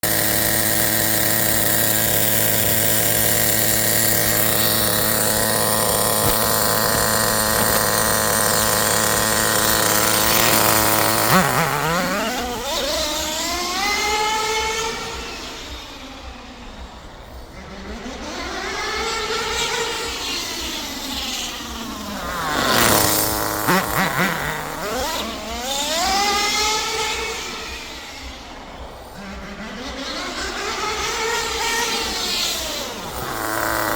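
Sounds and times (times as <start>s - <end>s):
rc car engine revving: 0.0s - 33.9s.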